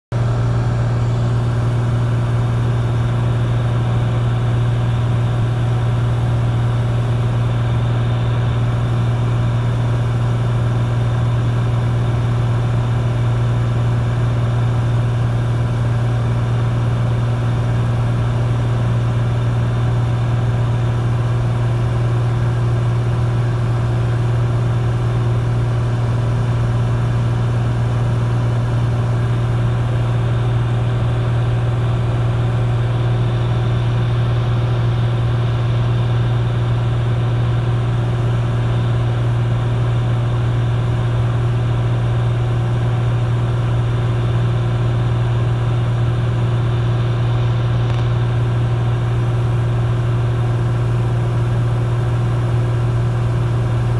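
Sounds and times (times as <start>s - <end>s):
propeller plane engine hum: 0.1s - 53.9s.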